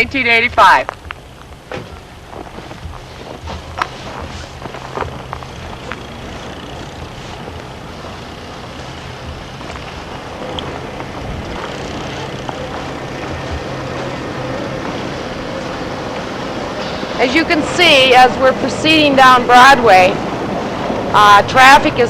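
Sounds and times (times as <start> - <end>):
road noise: 0.0 - 22.0
vehicle engine humming: 0.0 - 22.0.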